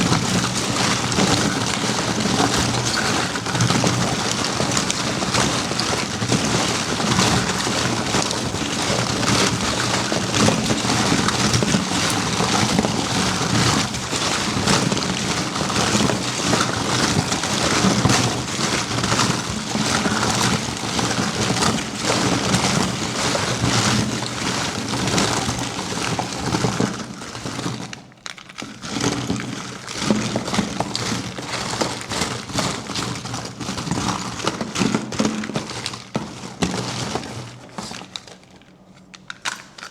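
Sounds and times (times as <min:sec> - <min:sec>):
wrapping crinkling and rustling: 0:00.0 - 0:39.9.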